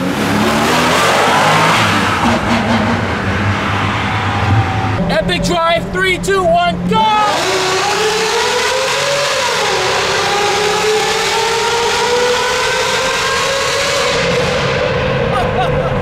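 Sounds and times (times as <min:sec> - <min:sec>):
car engine accelerating hard: 0:00.0 - 0:05.9, 0:06.7 - 0:16.0.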